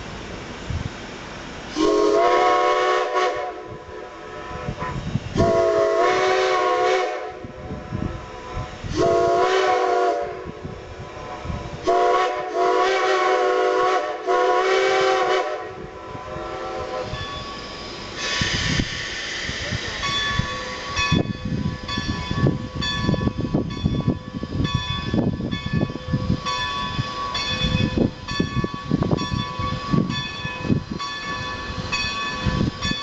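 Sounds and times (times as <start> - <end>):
steam locomotive chime whistle: 1.7 - 18.8, 19.9 - 33.0.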